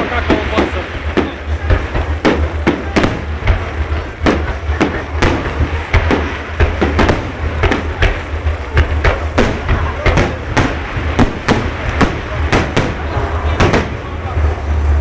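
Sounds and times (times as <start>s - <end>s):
fireworks bangs: 0.0s - 15.0s
low rumble: 0.0s - 15.0s.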